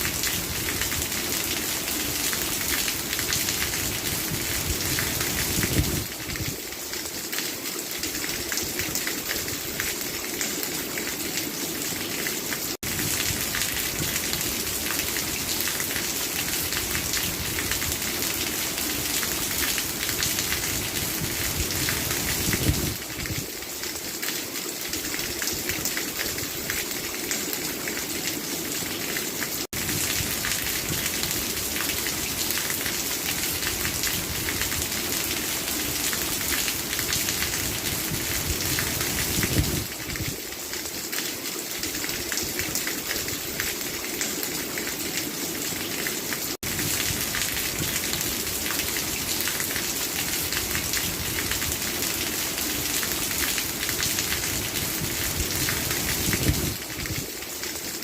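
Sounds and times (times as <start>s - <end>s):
heavy rain splashing: 0.0s - 58.0s.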